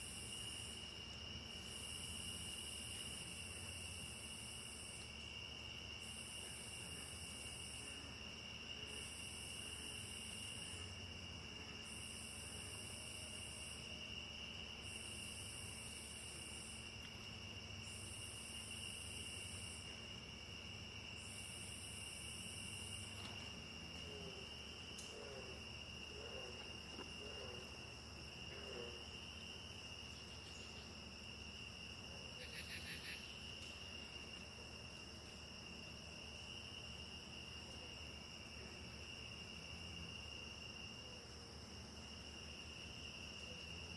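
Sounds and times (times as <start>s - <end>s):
insect buzzing in bouts: 0.0s - 41.1s
high-pitched insect chorus: 0.0s - 43.9s.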